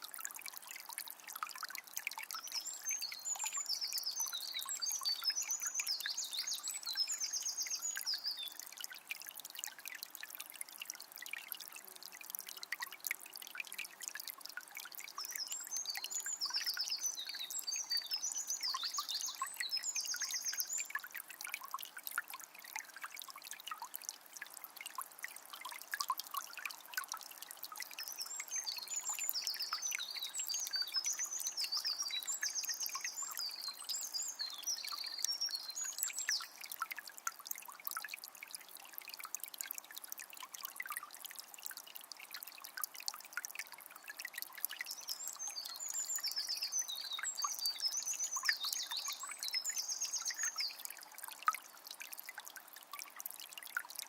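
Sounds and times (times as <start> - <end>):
spring water trickling: 0.0 - 54.0.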